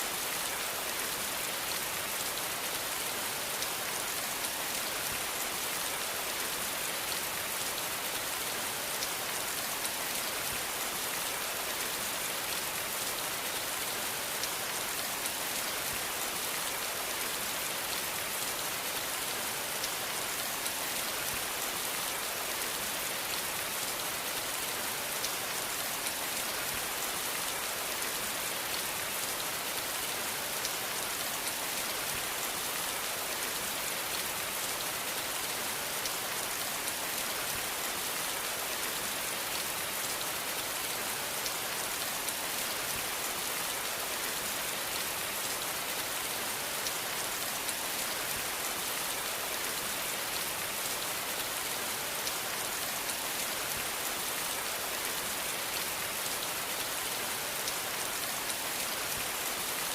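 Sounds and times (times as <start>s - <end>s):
rain hissing on a surface: 0.0s - 59.9s.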